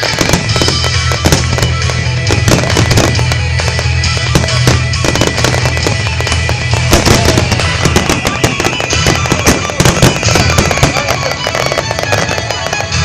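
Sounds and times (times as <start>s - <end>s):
fireworks shells bursting: 0.0s - 13.0s
music: 0.0s - 13.0s.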